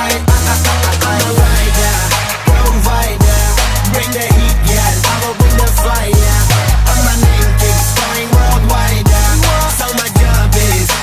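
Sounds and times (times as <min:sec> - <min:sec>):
electronic beat music: 0:00.0 - 0:11.0
sustained bass line: 0:00.0 - 0:11.0
deep bass hits dropping in pitch: 0:00.3 - 0:10.9.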